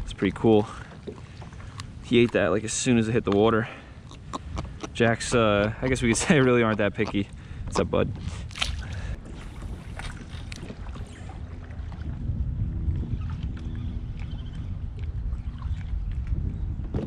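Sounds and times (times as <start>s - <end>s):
water lapping around kayak: 0.0s - 17.0s
wind rumble on microphone: 0.0s - 17.0s.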